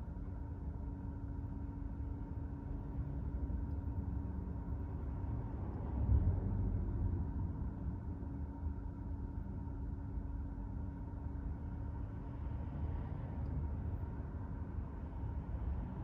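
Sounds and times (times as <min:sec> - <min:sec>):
faint constant hum: 0:00.0 - 0:16.0.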